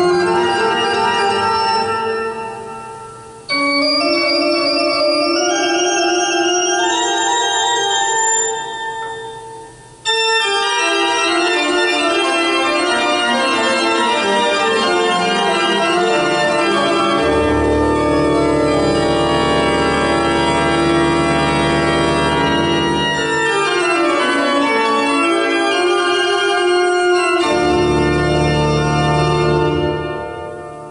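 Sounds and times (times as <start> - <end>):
organ playing sustained chords: 0.0 - 30.9.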